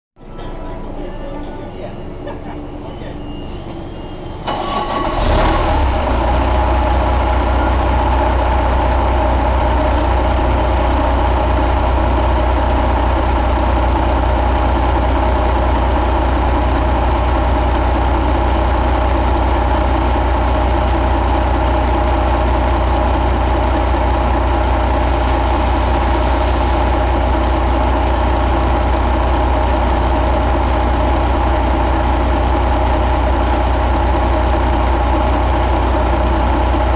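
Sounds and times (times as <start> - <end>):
diesel engine starting and idling: 0.2 - 36.9.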